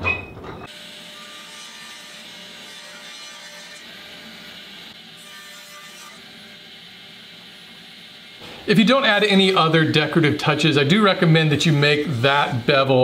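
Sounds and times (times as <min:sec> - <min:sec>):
table saw cutting wood: 0:00.6 - 0:13.0.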